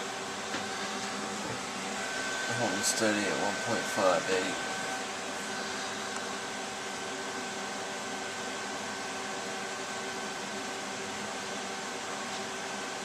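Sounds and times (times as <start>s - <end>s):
computer cooling fans whooshing: 0.0s - 13.0s.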